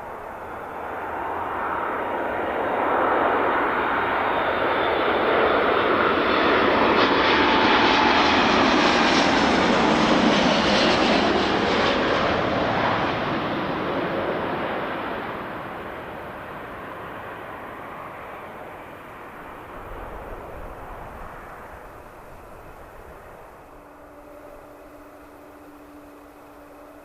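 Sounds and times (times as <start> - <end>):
airliner engines passing: 0.0 - 27.0.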